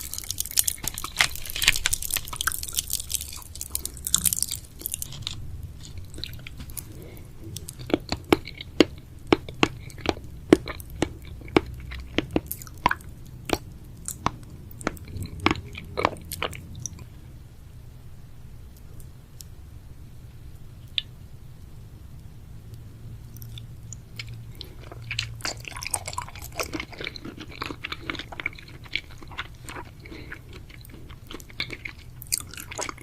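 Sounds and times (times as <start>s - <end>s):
person chewing candy: 0.0s - 17.2s, 23.3s - 33.0s.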